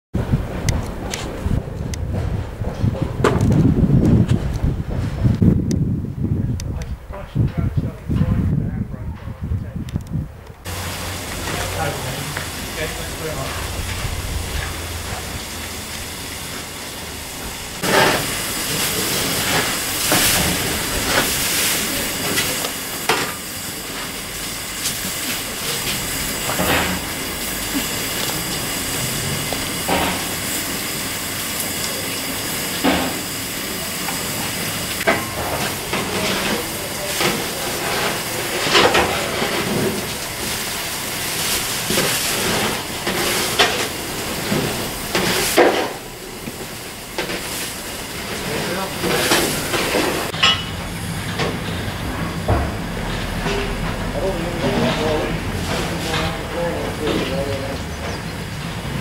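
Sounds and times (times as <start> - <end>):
steam hissing: 10.6 - 59.0.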